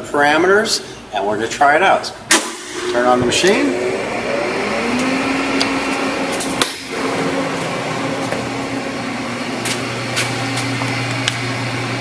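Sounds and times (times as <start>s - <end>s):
low mains hum: 0.0s - 12.0s
machine electrical hum and fan whir: 0.0s - 12.0s.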